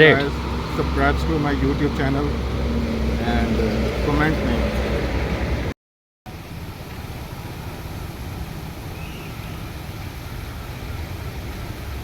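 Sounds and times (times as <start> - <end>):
waterfall rushing: 0.0 - 5.7, 6.3 - 12.0.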